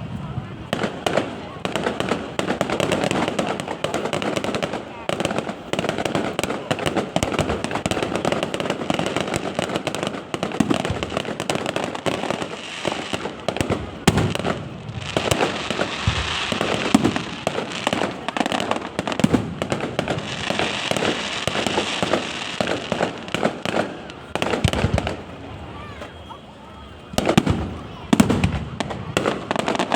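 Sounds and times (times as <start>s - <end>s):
fireworks bangs and pops: 0.0s - 29.9s
fireworks crackling: 0.0s - 29.9s.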